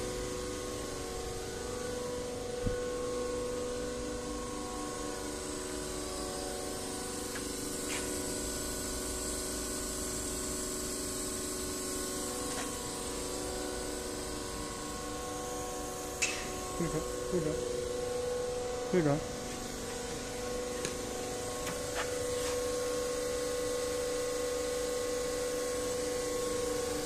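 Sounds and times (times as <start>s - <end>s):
hydraulic drill rig hum: 0.0s - 27.0s.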